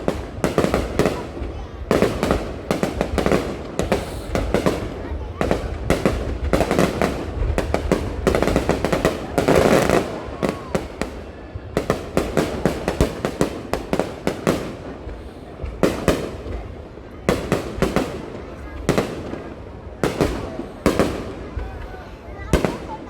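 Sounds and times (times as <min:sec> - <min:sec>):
fireworks cracking and popping: 0:00.0 - 0:23.0.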